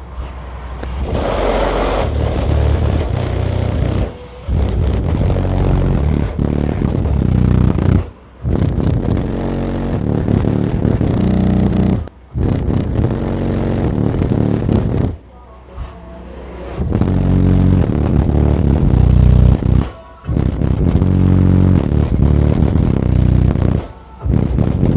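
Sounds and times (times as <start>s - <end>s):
loud bass-heavy music: 0.9s - 24.9s.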